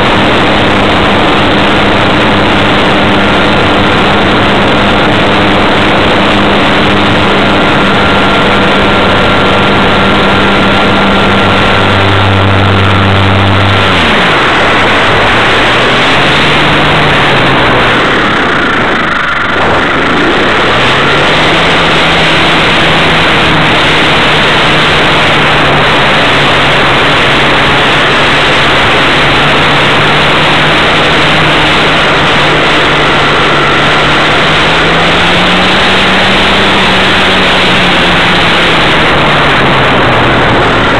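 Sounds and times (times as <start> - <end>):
plane engine and propeller drone: 0.0 - 40.9.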